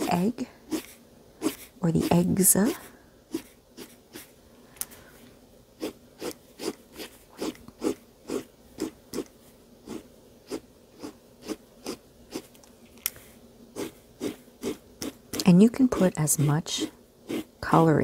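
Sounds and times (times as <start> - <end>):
marker scratching on paper: 0.0 - 4.3, 5.8 - 12.5, 13.8 - 18.0.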